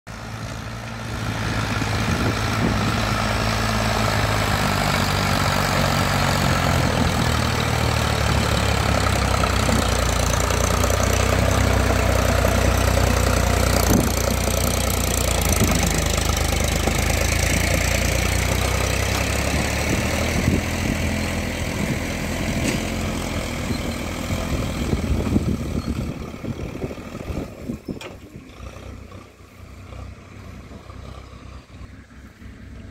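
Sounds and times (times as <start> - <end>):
tractor diesel engine running: 0.1 - 32.9.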